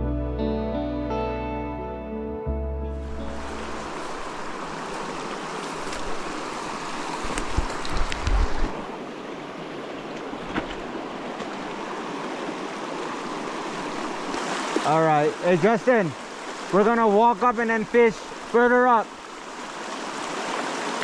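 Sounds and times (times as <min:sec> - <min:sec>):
stream rushing over rocks: 0:03.0 - 0:21.0.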